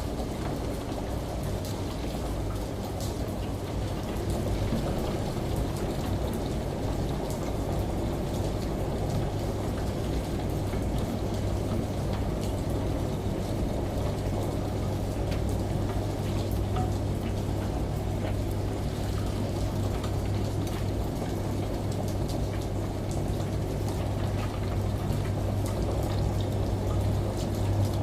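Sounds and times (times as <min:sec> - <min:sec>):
raindrops ticking: 0:00.0 - 0:28.0
steady rain: 0:00.0 - 0:28.0
washing machine humming: 0:00.0 - 0:28.0.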